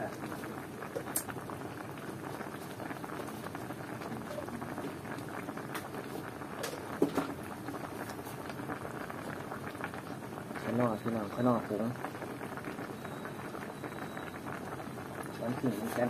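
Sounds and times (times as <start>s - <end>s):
pot bubbling: 0.0s - 16.0s.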